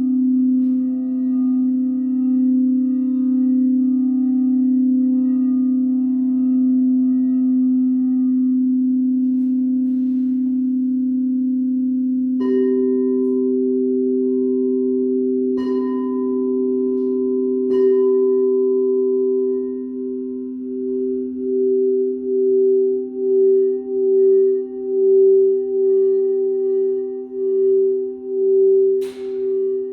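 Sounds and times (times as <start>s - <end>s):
low singing bowl tone: 0.0s - 29.9s
high singing bowl strikes: 0.1s - 29.9s.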